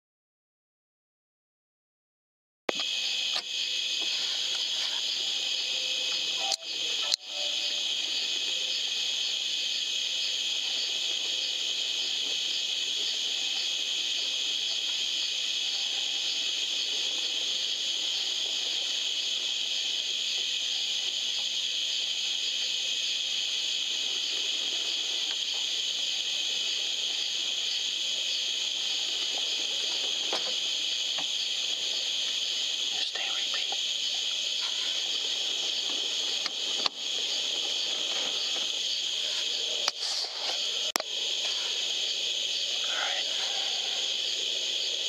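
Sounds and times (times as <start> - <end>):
night insects chorus: 2.7 - 45.0.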